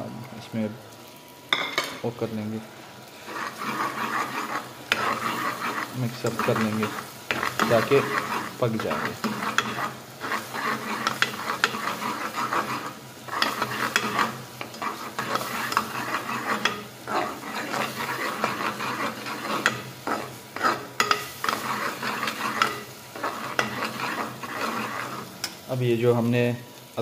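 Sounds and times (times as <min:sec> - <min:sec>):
sauce sizzling in hot oil: 0:00.0 - 0:27.0
metal spoon scraping a pan: 0:03.1 - 0:25.6.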